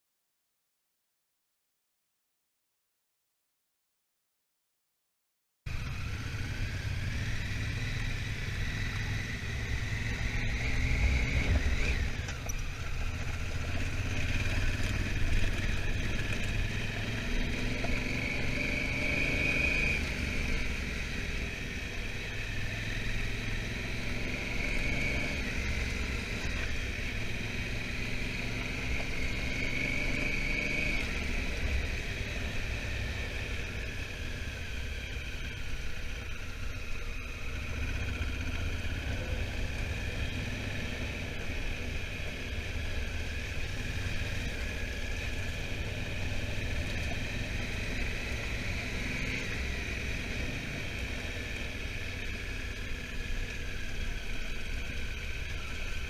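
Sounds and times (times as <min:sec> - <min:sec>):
motorcycle engine rumbling: 0:05.7 - 0:56.0.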